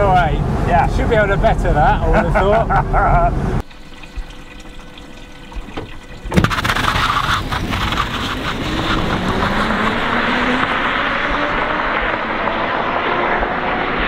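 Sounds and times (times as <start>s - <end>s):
tyre and road noise rush: 0.0s - 3.7s, 6.3s - 14.0s.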